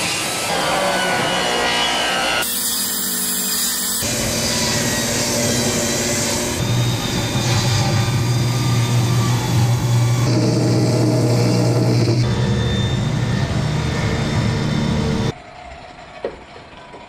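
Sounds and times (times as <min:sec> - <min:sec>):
table saw cutting wood: 0:00.0 - 0:15.3.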